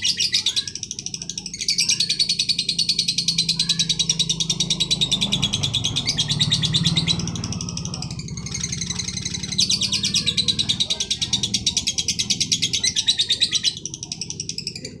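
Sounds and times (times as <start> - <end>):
bird trilling: 0.0 - 15.0
steady low hum: 0.0 - 15.0.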